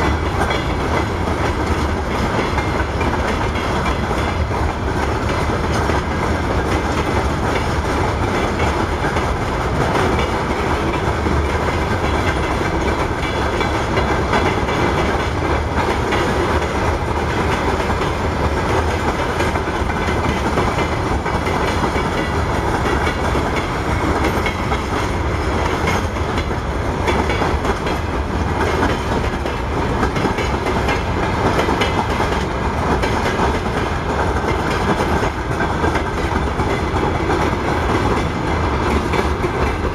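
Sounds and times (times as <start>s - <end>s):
freight train wagons rolling past: 0.0s - 39.9s
wheels clattering over rail joints: 0.0s - 39.9s.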